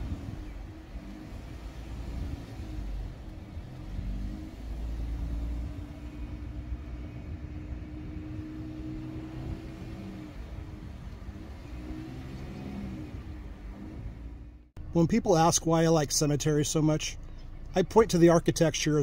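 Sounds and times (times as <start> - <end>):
motor hum over low rumble: 0.0 - 15.2.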